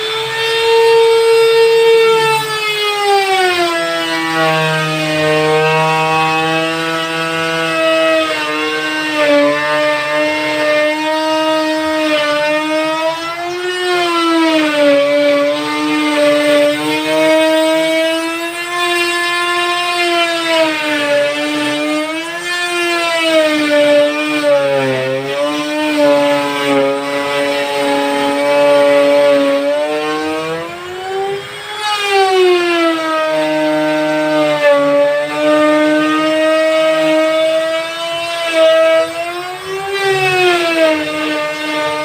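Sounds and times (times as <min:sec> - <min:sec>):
router motor cutting plywood: 0:00.0 - 0:42.0.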